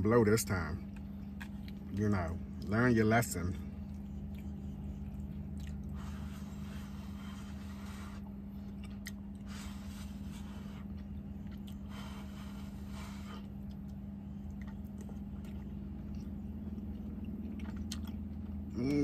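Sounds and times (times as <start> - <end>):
steady low hum: 0.0 - 19.0
man chewing food: 0.2 - 19.0.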